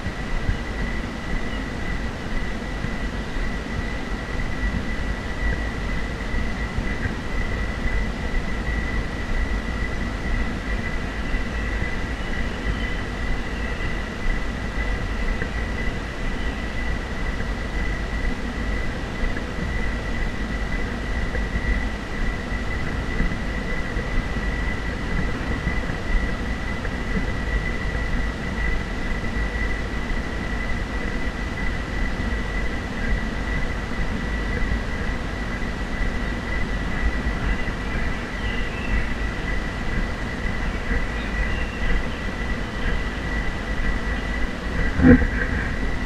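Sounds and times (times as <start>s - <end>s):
high-pitched whine: 0.0s - 46.0s
wind buffeting microphone: 0.0s - 46.0s.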